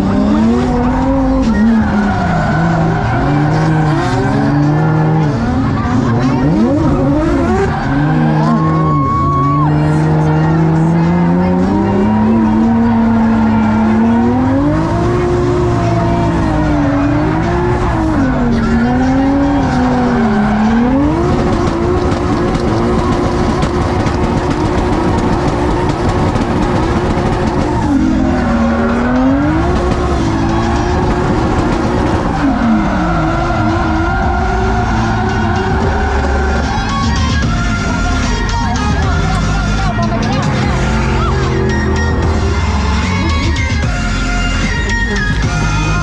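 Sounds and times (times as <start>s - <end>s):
tyre squeal: 0.0s - 38.4s
car engine revving: 0.0s - 46.0s.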